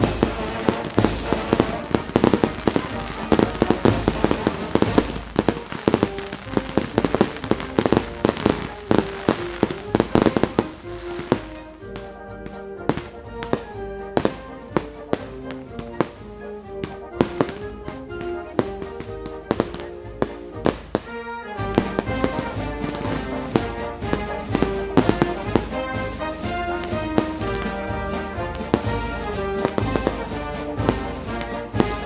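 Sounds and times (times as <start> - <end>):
fireworks bangs and crackles: 0.0 - 32.0
music with melody and beat: 0.0 - 32.0.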